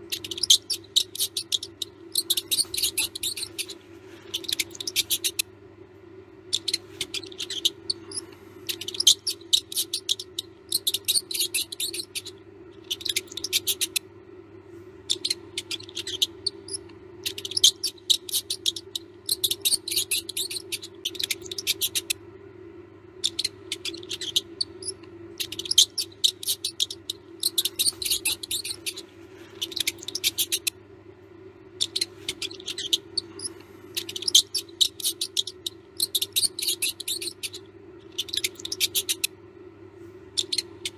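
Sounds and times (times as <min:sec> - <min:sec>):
mouse squeaking and chittering: 0:00.0 - 0:05.5, 0:06.4 - 0:14.1, 0:15.0 - 0:22.2, 0:23.2 - 0:30.8, 0:31.6 - 0:39.4, 0:40.3 - 0:40.9
steady low hum: 0:00.0 - 0:40.9.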